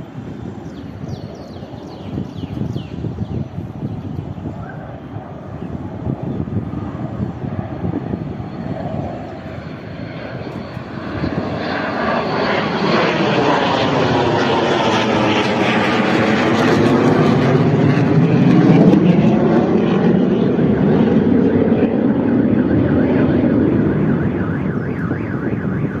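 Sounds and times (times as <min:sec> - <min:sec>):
fighter jet flying past: 0:00.0 - 0:26.0.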